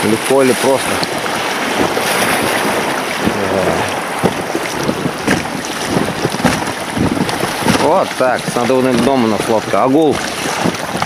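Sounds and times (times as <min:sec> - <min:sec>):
water rushing: 0:00.0 - 0:11.0
wind buffeting microphone: 0:00.0 - 0:11.0.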